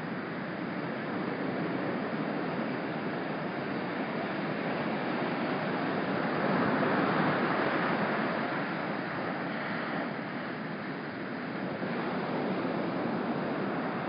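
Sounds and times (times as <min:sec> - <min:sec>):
ocean surf breaking: 0:02.6 - 0:14.0.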